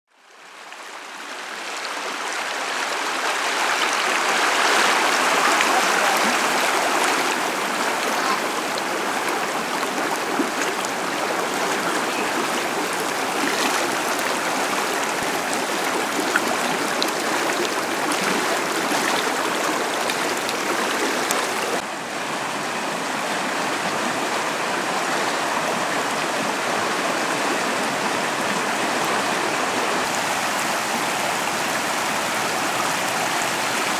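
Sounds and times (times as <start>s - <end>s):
creek rushing over rocks: 0.1s - 33.9s.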